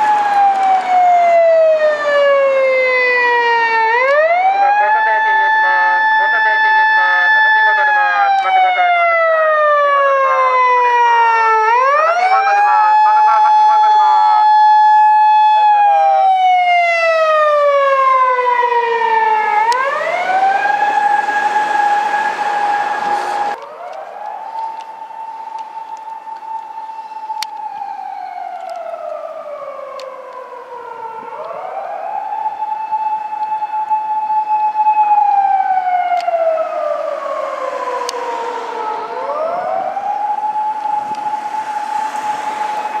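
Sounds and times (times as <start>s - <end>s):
siren wailing: 0.0s - 43.0s.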